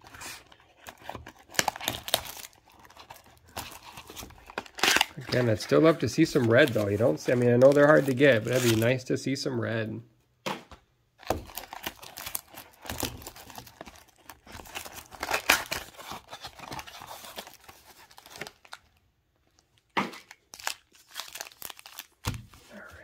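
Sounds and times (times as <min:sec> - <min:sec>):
foil packs crinkling and tearing: 0:00.0 - 0:09.0, 0:11.2 - 0:22.6.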